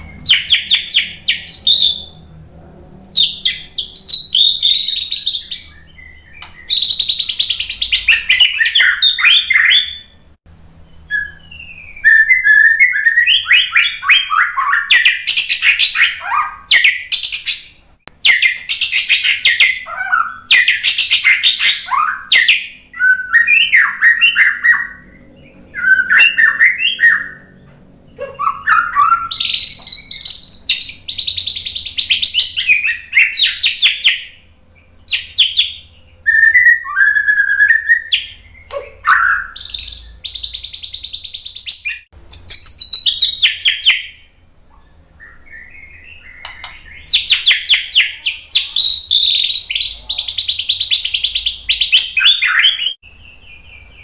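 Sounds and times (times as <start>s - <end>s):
bird singing fast whistles: 0.0s - 2.2s, 3.1s - 10.1s, 11.0s - 27.5s, 28.4s - 34.3s, 35.1s - 44.2s, 45.2s - 53.0s.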